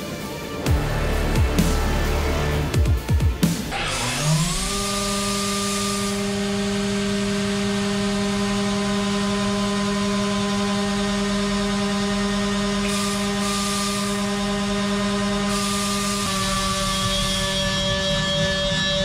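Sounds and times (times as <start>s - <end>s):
mill spindle whine: 3.4s - 19.0s.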